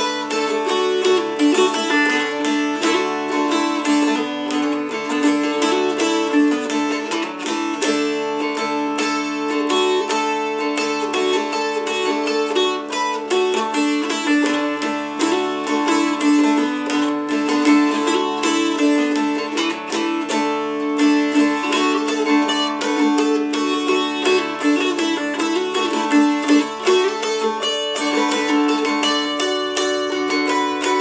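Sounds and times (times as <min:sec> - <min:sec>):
mountain dulcimer strumming: 0:00.0 - 0:31.0.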